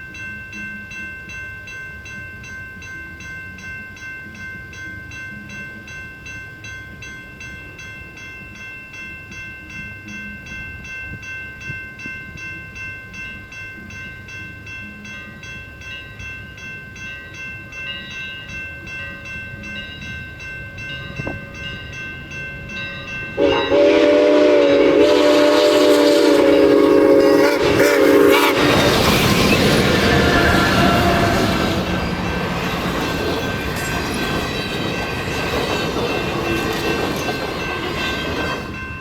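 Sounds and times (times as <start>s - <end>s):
locomotive bell ringing: 0.0s - 39.0s
low rumble of passing train: 0.1s - 39.0s.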